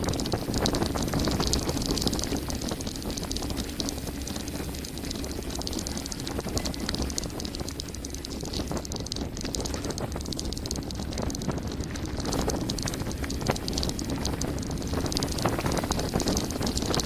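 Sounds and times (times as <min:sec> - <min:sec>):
bike rattling: 0:00.0 - 0:17.0
bike tyres rumbling over gravel: 0:00.0 - 0:17.0
wind buffeting microphone: 0:00.0 - 0:17.0.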